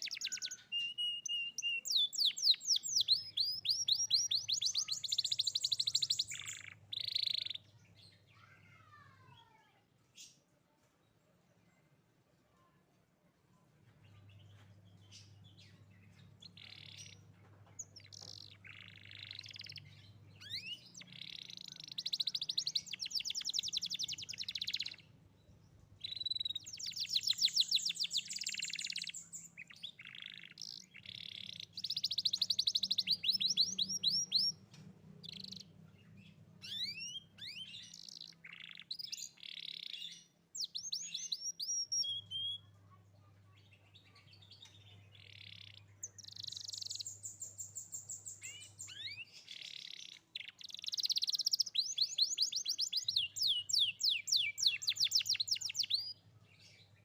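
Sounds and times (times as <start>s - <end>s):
canary singing trills: 0.0s - 9.4s, 14.1s - 57.0s.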